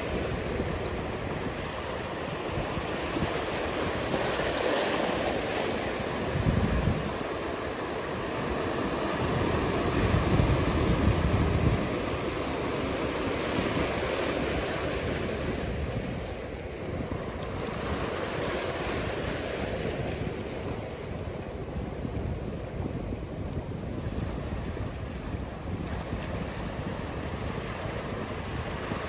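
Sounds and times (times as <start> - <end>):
ocean surf washing: 0.0 - 29.0
wind rumbling on microphone: 0.0 - 29.0.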